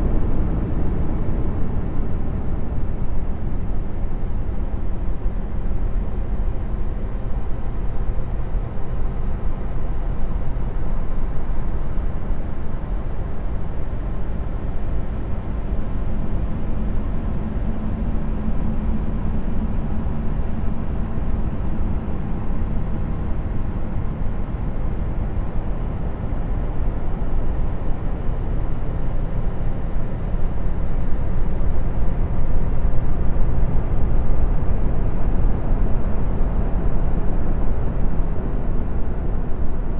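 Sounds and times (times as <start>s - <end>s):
deep rumbling drone: 0.0s - 39.9s.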